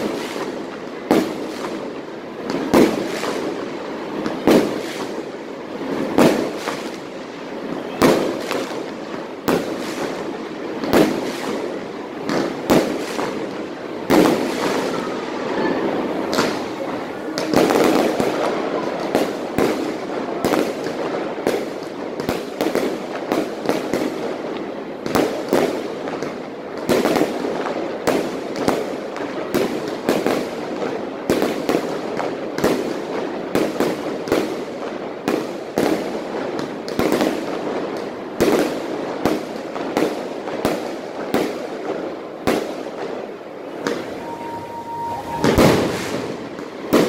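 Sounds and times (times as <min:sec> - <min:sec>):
fireworks bangs: 0:00.0 - 0:47.0
fireworks crackle: 0:00.0 - 0:47.0.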